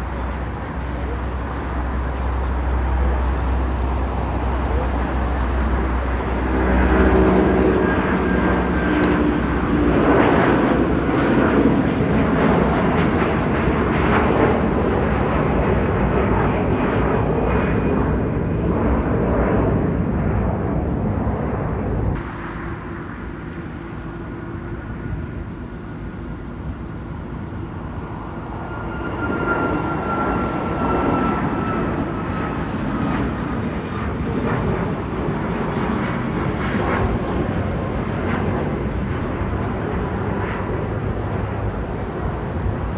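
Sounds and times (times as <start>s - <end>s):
jet engine whine: 0.0s - 42.9s
jet engines roaring: 0.0s - 42.9s.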